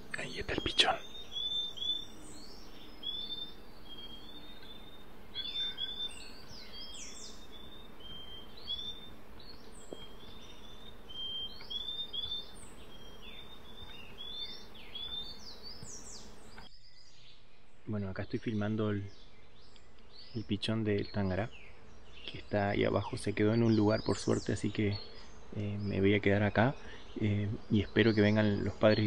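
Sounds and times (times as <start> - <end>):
birds chirping and whistling: 0.0 - 29.0
forest background hiss: 0.0 - 29.0.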